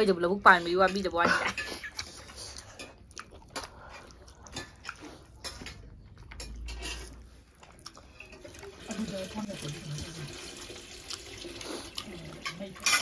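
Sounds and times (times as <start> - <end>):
wet chewing: 1.5 - 9.8, 10.4 - 13.0.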